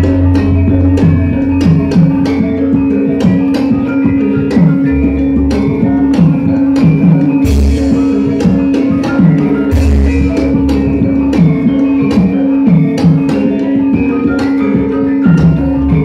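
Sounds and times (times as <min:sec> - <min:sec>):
gamelan ensemble playing: 0:00.0 - 0:16.0
held metallic tone: 0:00.0 - 0:16.0
ringing metallophone strikes: 0:00.0 - 0:16.0.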